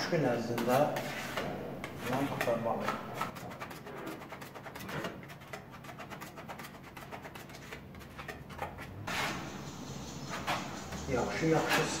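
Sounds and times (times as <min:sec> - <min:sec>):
spreaders scraping and clicking: 0:00.5 - 0:12.0.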